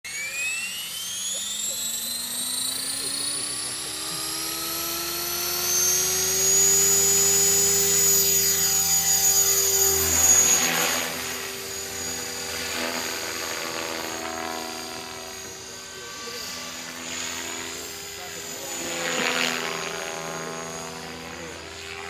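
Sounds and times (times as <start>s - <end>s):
rc helicopter motor whine: 0.0s - 22.0s.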